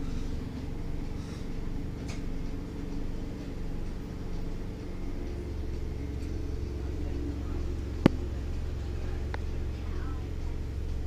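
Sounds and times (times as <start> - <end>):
steady hum: 0.0 - 11.0
train low rumble: 0.0 - 11.0.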